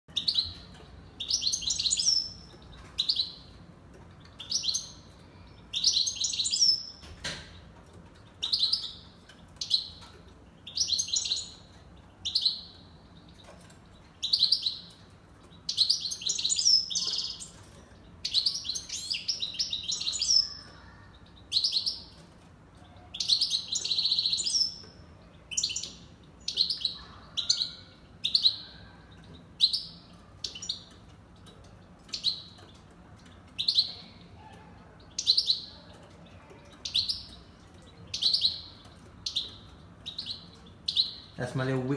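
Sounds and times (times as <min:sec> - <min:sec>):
finch chirping: 0:00.1 - 0:41.9.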